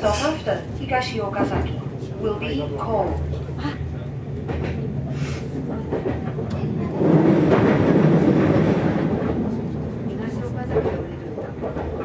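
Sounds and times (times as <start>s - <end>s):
train running on rails: 0.0s - 12.0s.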